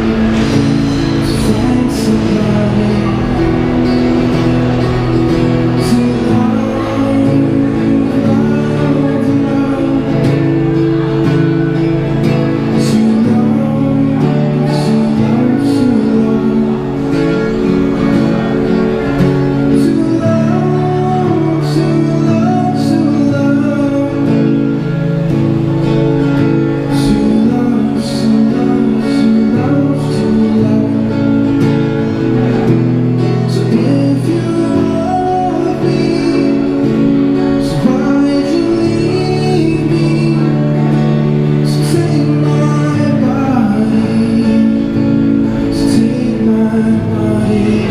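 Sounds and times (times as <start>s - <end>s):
amplified acoustic guitar chords: 0.0s - 47.9s
person singing: 0.0s - 47.9s.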